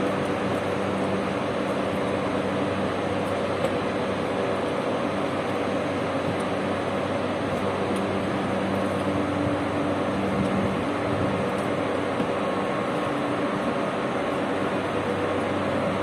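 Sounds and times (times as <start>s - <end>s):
mechanical drone: 0.0s - 16.0s.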